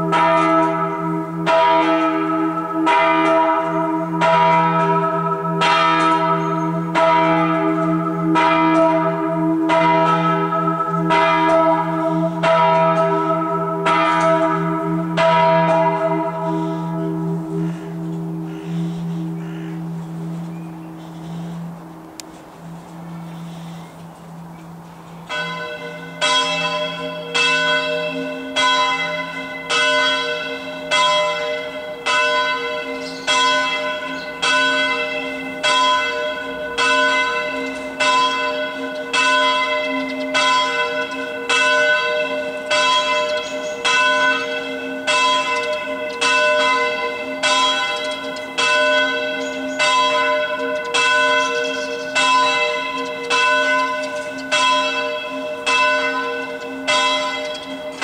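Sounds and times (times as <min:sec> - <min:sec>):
church bell ringing: 0:00.0 - 0:58.0
lower church bell: 0:00.0 - 0:58.0.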